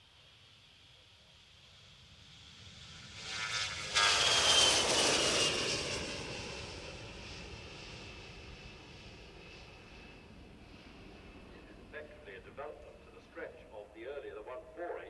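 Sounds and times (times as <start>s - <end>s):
high engine whine: 1.9s - 15.0s
jet flying past: 1.9s - 15.0s.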